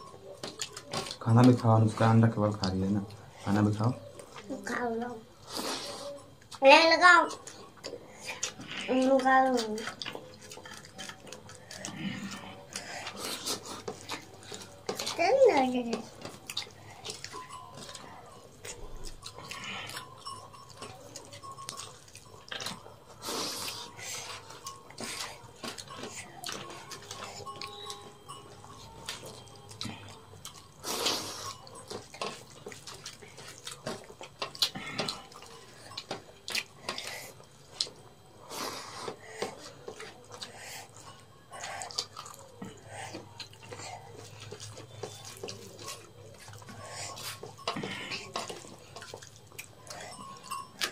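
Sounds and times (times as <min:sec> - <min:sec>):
chewing mouth sounds: 0:07.2 - 0:15.2, 0:16.0 - 0:50.9.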